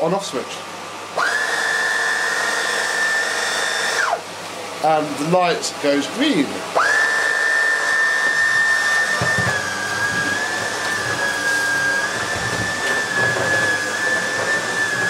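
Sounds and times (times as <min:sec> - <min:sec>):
vacuum cleaner motor whine: 0:00.0 - 0:15.0.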